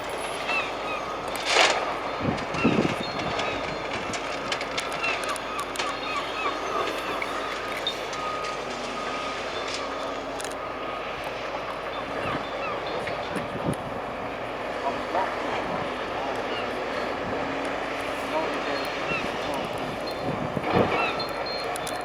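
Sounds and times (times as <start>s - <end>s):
demolition machine engine hum: 0.0s - 22.0s.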